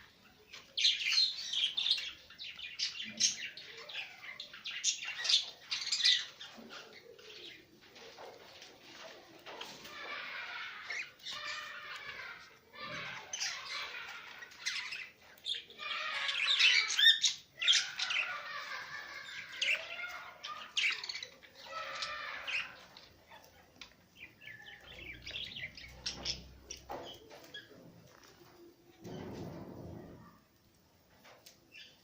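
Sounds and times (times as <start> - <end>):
parrots chattering and chirping: 0.0 - 29.3.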